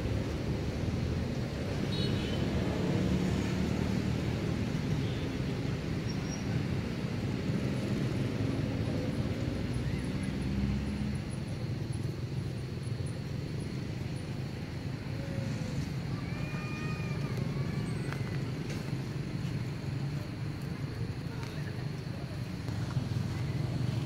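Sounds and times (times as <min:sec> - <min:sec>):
low rumble of outdoor background: 0:00.0 - 0:24.0.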